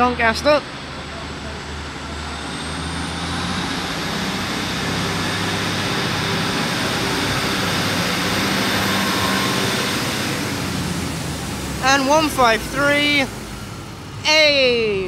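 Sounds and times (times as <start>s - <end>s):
diesel train engines running: 0.0s - 15.0s
high whine climbing in pitch: 2.0s - 15.0s.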